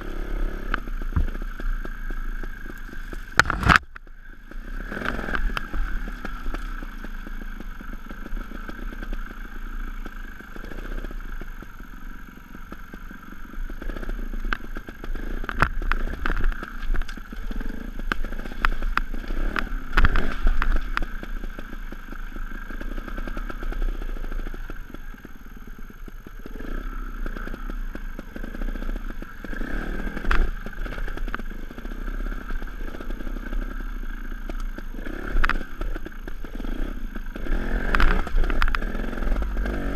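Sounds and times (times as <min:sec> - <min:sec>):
motorcycle knocking over rocks: 0:00.0 - 0:11.8, 0:12.7 - 0:25.4, 0:26.0 - 0:39.9
two-stroke motorcycle engine: 0:00.0 - 0:39.9.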